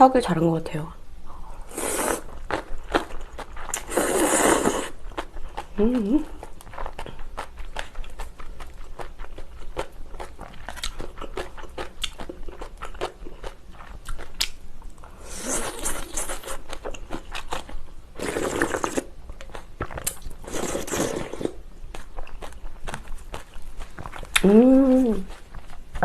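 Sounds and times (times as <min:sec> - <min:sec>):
crunchy chewing: 0:01.7 - 0:14.6, 0:15.4 - 0:26.0.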